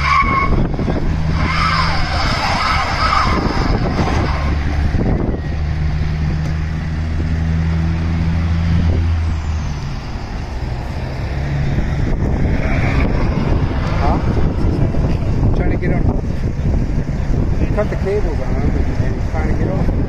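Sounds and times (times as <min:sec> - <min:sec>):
vehicle engine running: 0:03.4 - 0:20.0.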